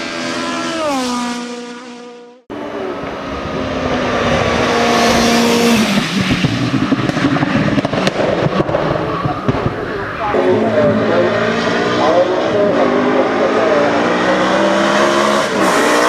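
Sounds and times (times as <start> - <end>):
race car engine passing: 0.0 - 16.0.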